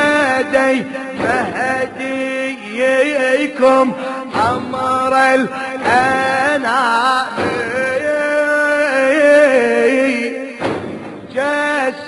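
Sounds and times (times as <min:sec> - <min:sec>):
man singing a lamentation chant: 0:00.0 - 0:12.0.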